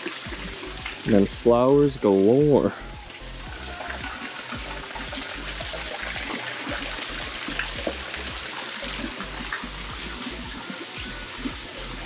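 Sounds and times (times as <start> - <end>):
waterfall splashing into pond: 0.0 - 12.0.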